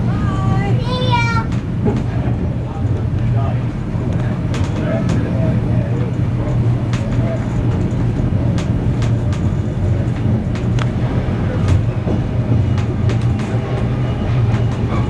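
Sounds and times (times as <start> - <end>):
train rumbling along track: 0.0 - 15.0
wheels clicking on rails: 0.0 - 15.0.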